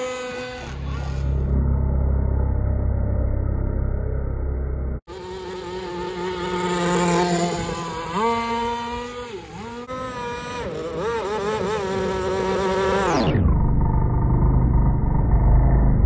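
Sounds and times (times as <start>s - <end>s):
two-stroke boat engine whining: 0.0s - 2.4s, 5.1s - 15.9s.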